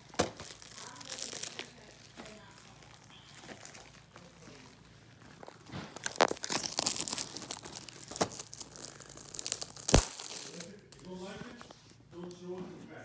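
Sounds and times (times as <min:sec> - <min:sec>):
plastic wrapping crinkling and tearing: 0:00.0 - 0:12.3.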